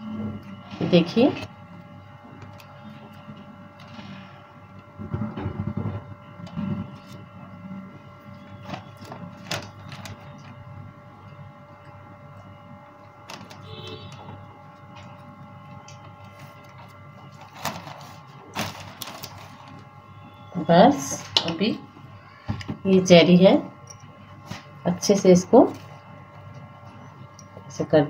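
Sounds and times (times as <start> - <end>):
appliance humming: 0.0 - 28.0.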